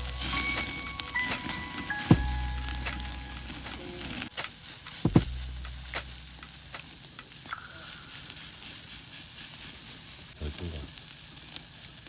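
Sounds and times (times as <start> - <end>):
beef sizzling on a grill: 0.0 - 12.0.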